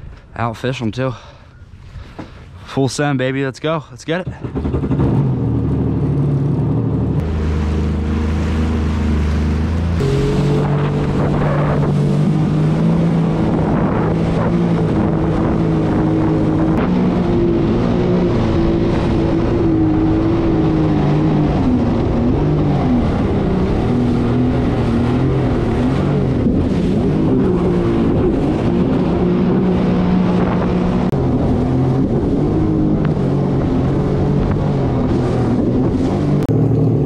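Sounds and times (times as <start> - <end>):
jet ski engine: 4.1 - 37.0.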